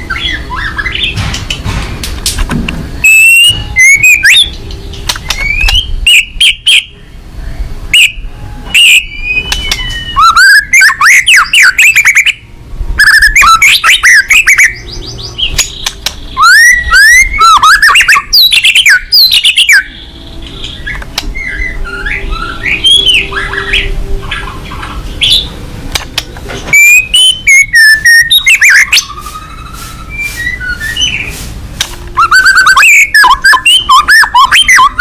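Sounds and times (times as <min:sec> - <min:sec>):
songbird singing: 0:00.0 - 0:01.6, 0:02.4 - 0:35.0.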